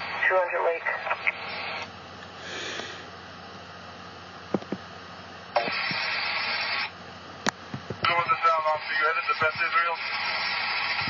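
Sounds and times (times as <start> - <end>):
radio scanner static hiss: 0.0 - 3.2, 4.5 - 11.0.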